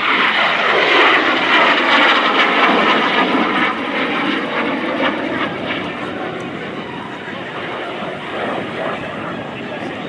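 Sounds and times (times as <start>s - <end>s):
jet aircraft flying past: 0.0s - 10.0s.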